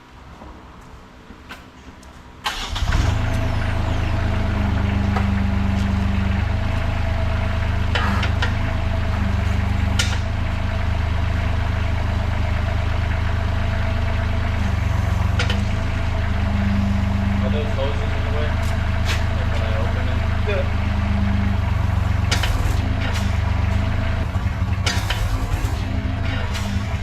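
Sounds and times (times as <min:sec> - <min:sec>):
skid steer engine running: 0:02.5 - 0:27.0.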